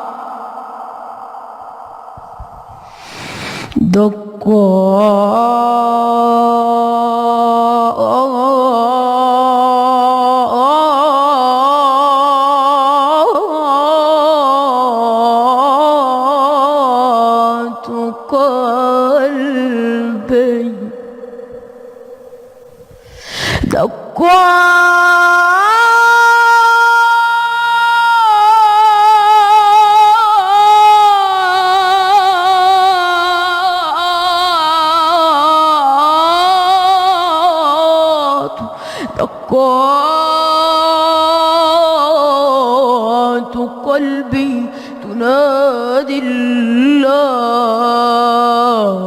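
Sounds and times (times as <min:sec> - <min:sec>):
child chanting: 0:03.8 - 0:21.0, 0:23.7 - 0:49.0.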